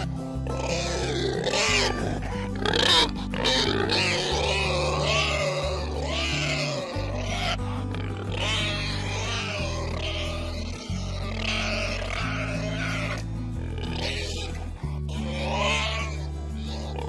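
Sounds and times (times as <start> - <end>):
background music with bass: 0.0 - 17.0
pigs squealing: 0.0 - 17.0.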